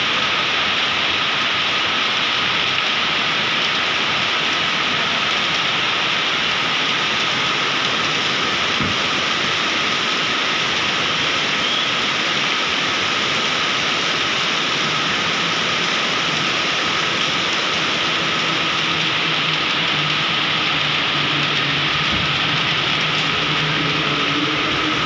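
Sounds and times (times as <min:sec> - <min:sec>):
heavy rain on flooded pavement: 0:00.0 - 0:25.0.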